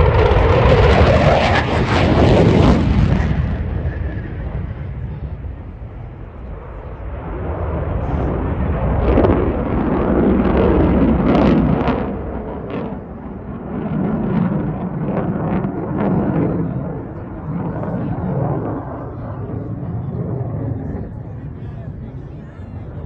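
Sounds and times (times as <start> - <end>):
fighter jet engine rumbling: 0.0 - 23.0.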